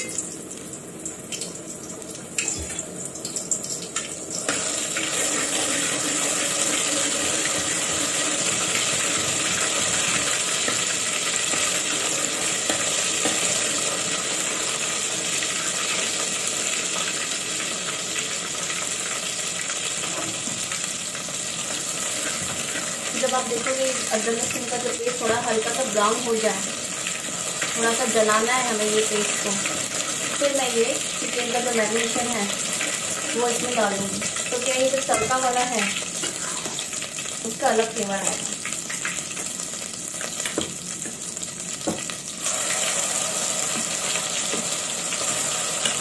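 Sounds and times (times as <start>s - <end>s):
paste sizzling in hot oil: 3.8s - 46.0s.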